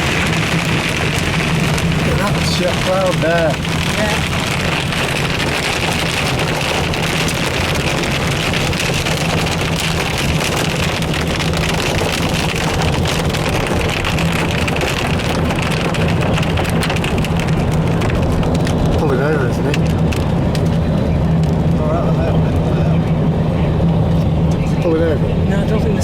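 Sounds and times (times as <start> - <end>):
car engine and road rumble: 0.0 - 26.0
rain and hail pelting a car roof: 0.0 - 26.0.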